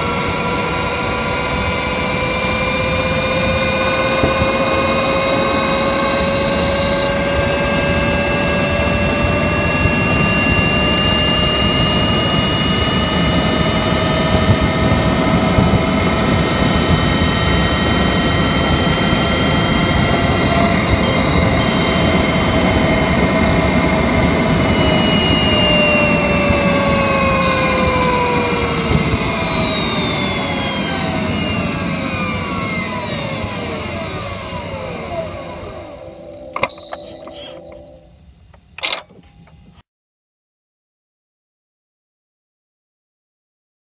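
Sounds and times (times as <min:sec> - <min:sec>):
electric motor whining: 0:00.0 - 0:39.8.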